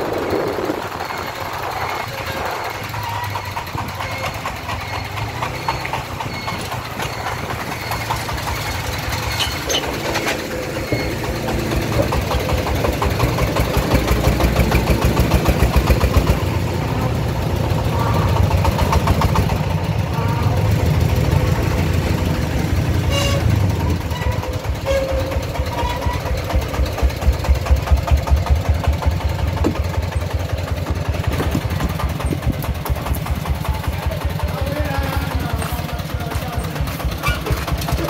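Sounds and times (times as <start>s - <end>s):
diesel engine thumping: 0.0s - 38.0s.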